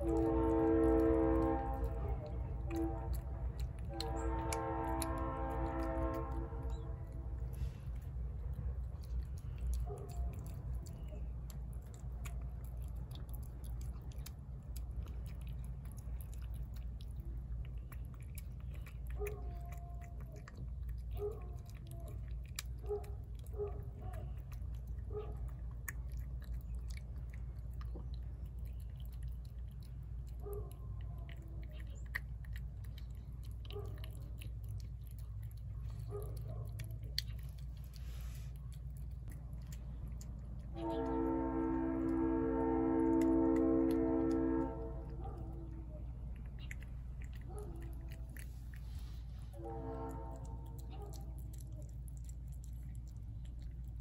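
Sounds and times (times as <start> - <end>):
cat chewing wet food: 0.0 - 54.0
steady low rumble: 0.0 - 54.0.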